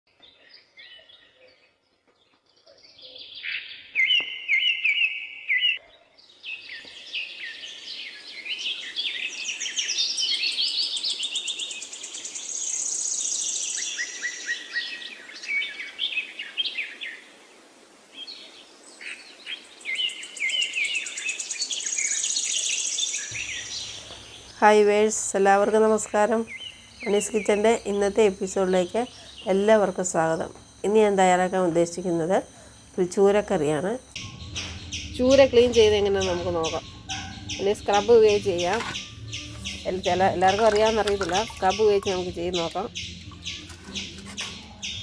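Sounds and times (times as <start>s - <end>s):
birds chirping and trilling: 0.1s - 17.4s, 18.2s - 45.0s.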